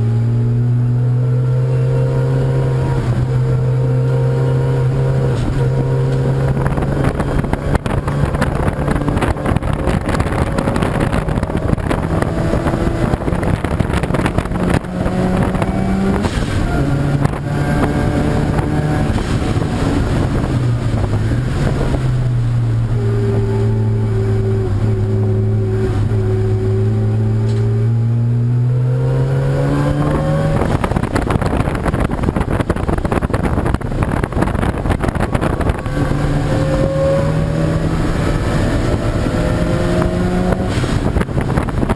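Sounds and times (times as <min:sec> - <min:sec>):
race car engine high revs: 0:00.0 - 0:41.9.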